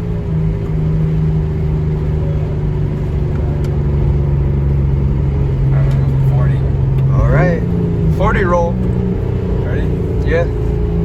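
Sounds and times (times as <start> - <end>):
car engine drone cruising: 0.0 - 11.0.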